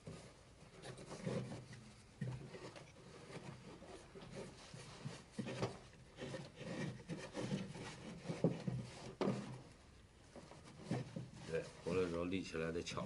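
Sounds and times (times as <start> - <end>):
hand tool scraping wood: 0.0 - 12.7.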